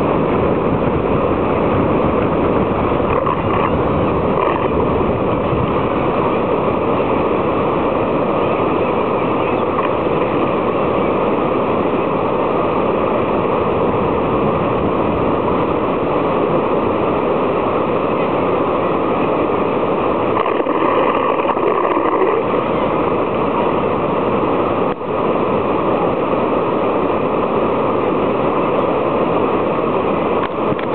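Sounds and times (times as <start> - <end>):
creek water rushing: 0.0 - 30.9.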